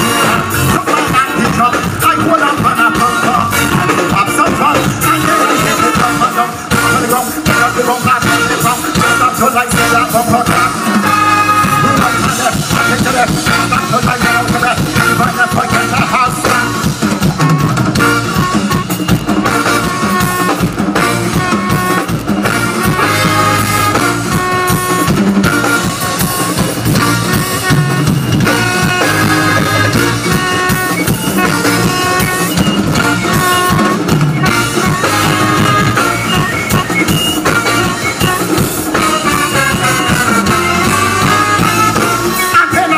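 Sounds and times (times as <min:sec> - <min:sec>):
driving drum beat: 0:00.0 - 0:42.9
keyboards: 0:00.0 - 0:42.9
live band playing: 0:00.0 - 0:42.9.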